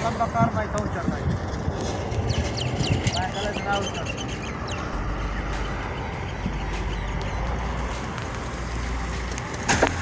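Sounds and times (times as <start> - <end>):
loud rush of noise: 0.0 - 9.3.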